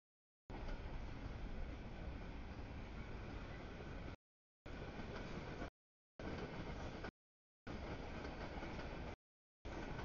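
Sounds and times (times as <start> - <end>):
train wheels rumbling on rails: 0.5 - 7.1, 7.7 - 10.0.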